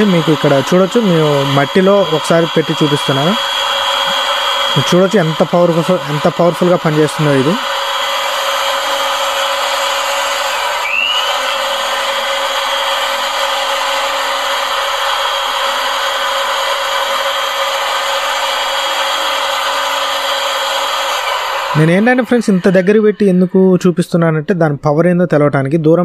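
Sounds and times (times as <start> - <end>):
electric air blower running: 0.0 - 23.7.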